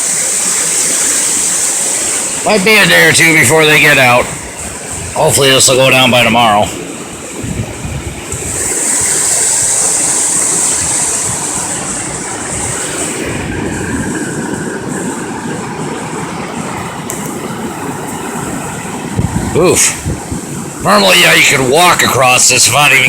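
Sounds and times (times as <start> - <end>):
water rushing over a crossing: 0.0 - 23.0.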